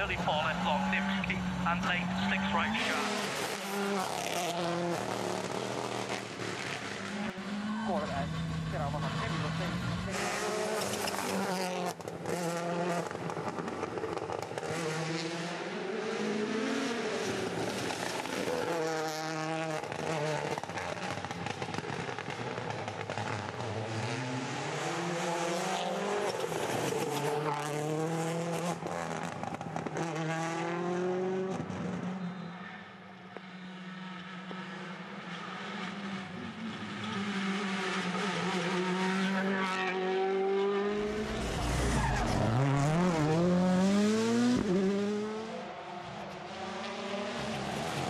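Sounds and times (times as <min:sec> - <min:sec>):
rally car engine revving: 0:00.0 - 0:32.8, 0:33.4 - 0:48.0.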